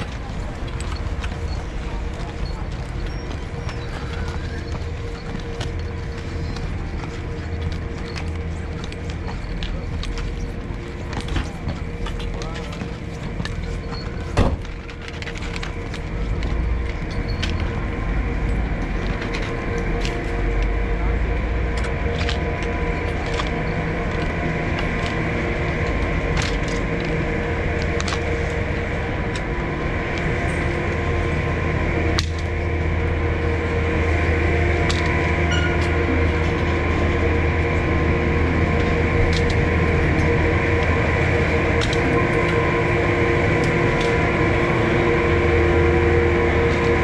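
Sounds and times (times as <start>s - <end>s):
gondola machinery humming: 0.0s - 47.0s.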